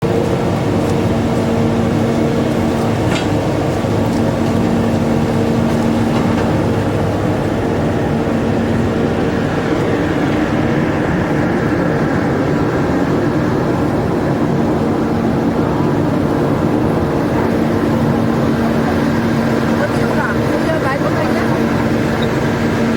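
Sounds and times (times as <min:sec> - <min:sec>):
ferry engine drone: 0:00.0 - 0:22.9.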